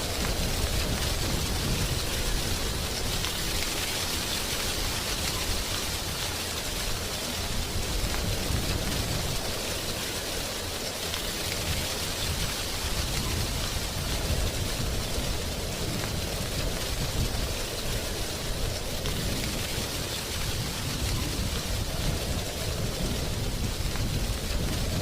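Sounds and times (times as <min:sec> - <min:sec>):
wind rustling tree leaves: 0:00.0 - 0:25.0.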